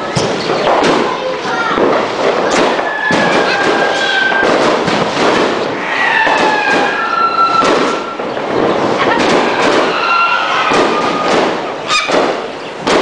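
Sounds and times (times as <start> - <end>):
fireworks bangs and crackles: 0.0 - 13.0
fireworks whistling: 0.0 - 13.0.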